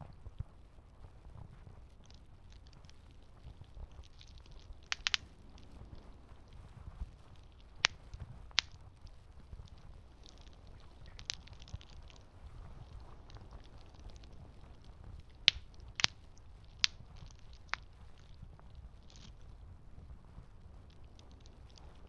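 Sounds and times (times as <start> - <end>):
wood popping and crackling: 1.5 - 22.0
campfire rumbling: 1.8 - 22.0.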